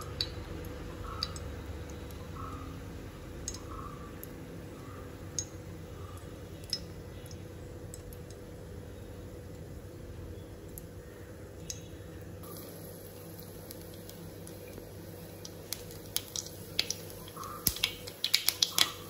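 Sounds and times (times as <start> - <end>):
mustard seeds popping in hot oil: 0.0 - 4.5, 5.3 - 5.6, 6.2 - 8.7, 10.6 - 19.0.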